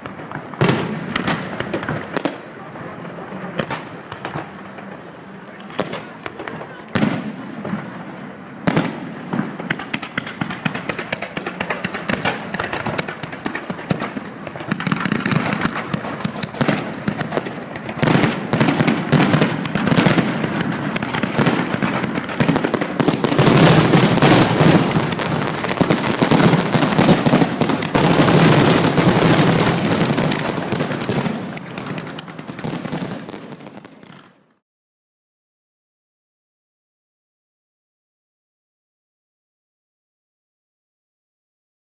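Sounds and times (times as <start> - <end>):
fireworks bangs and crackling: 0.0 - 34.6.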